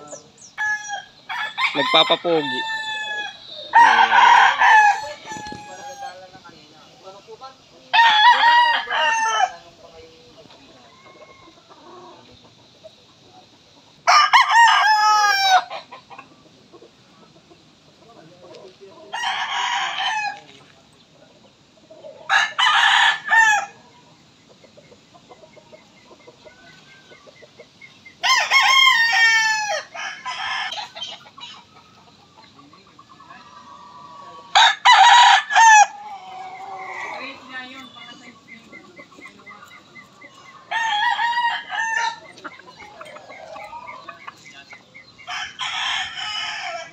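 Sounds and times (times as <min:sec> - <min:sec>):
roosters crowing: 0:00.0 - 0:20.8, 0:21.4 - 0:46.9.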